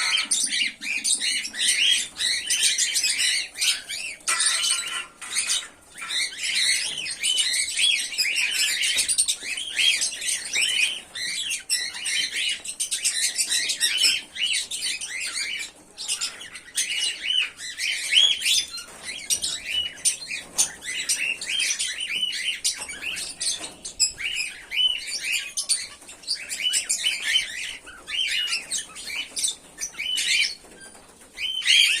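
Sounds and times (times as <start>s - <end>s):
cockatiels chirping: 0.0s - 32.0s.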